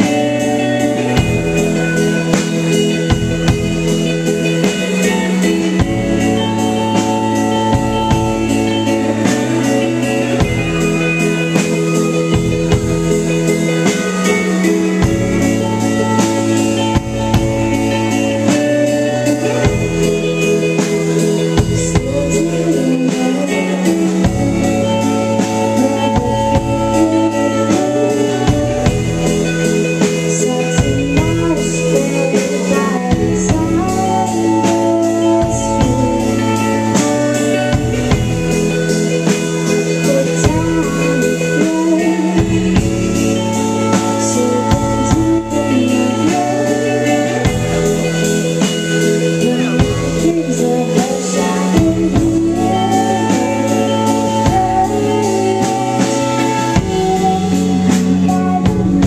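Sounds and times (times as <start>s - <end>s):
drum kit steady beat: 0.0s - 59.0s
hammond organ keyboard: 0.0s - 59.0s
sustained bass notes: 0.0s - 59.0s
woman singing: 0.0s - 59.0s.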